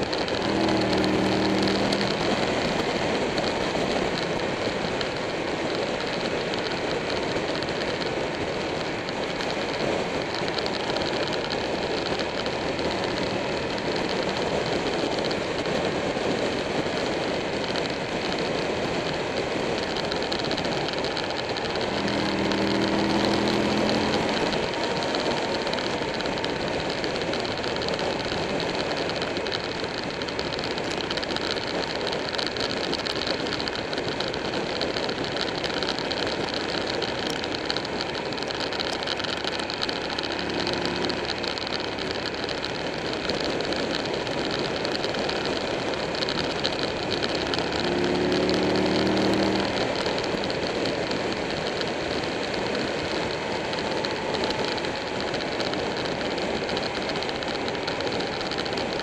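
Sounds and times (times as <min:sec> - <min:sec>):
motorcycle engine accelerating: 0:00.0 - 0:59.0
wind rush and road noise: 0:00.0 - 0:59.0.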